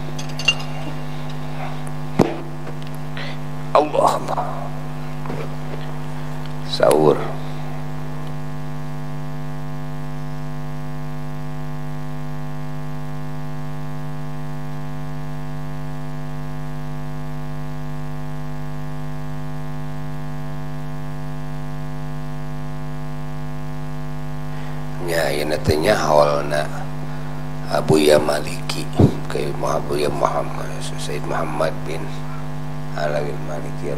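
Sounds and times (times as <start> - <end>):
electrical mains hum: 0.0 - 33.9.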